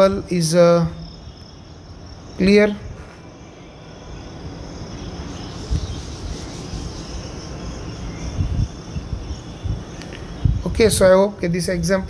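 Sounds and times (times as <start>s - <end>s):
high hiss: 0.0s - 11.1s.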